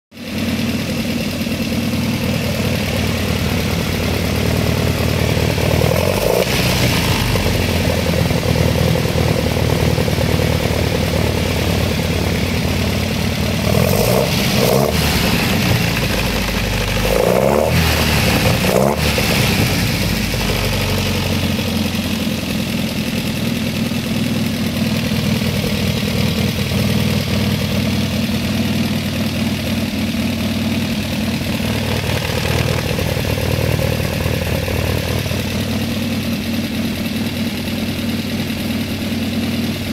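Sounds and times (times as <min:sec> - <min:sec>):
car engine idling and revving: 0:00.2 - 0:39.9.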